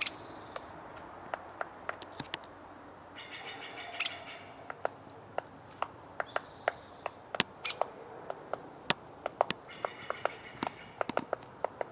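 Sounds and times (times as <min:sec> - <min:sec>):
woodpecker pecking: 0:00.0 - 0:02.6, 0:03.2 - 0:11.9.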